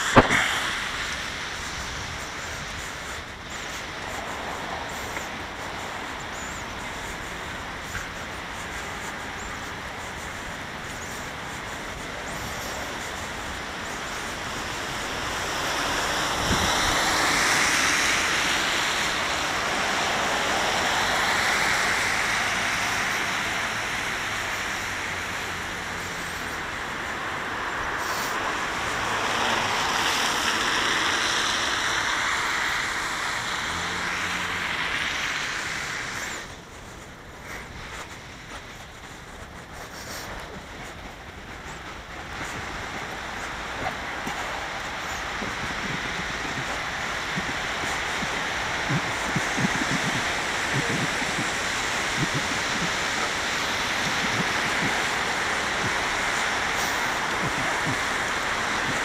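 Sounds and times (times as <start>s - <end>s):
vehicles passing on wet road: 0.0s - 59.0s.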